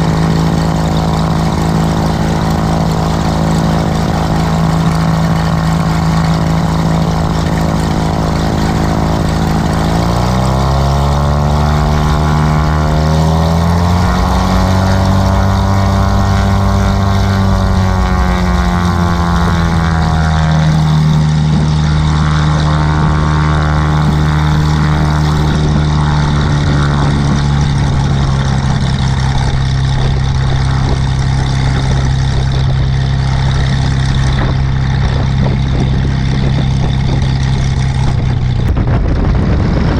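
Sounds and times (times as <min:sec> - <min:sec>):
propeller plane engine revving: 0:00.0 - 0:39.9.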